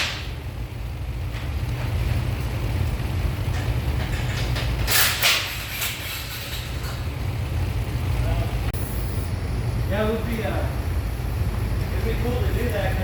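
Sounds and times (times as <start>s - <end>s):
engine rumble with loud exhaust: 0.0s - 13.0s.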